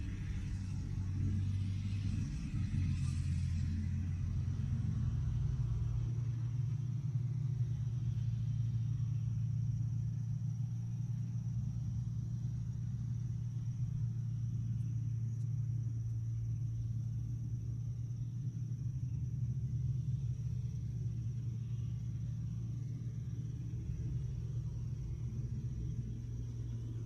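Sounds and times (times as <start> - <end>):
diesel engine rumble: 0.0 - 27.0.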